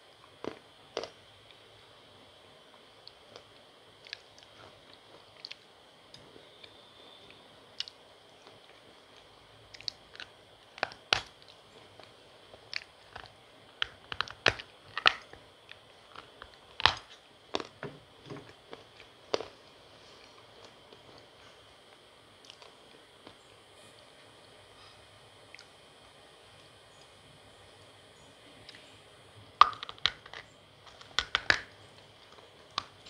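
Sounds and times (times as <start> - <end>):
crunching and chewing: 0.0 - 1.7, 2.7 - 24.2, 25.5 - 25.8, 29.5 - 33.0.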